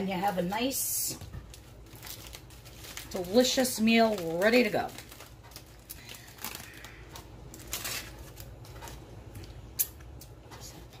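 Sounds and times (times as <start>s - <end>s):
foil crinkling: 0.0s - 9.6s.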